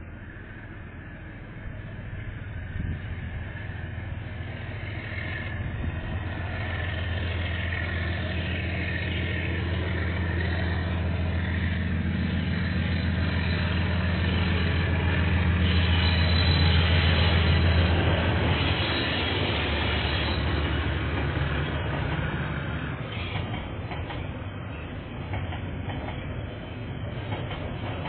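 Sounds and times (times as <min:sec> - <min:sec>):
diesel locomotive engine hum: 0:00.0 - 0:28.0.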